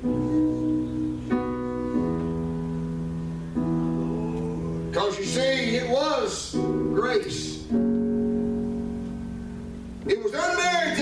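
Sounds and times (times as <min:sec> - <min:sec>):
church keyboard chords: 0:00.0 - 0:11.0.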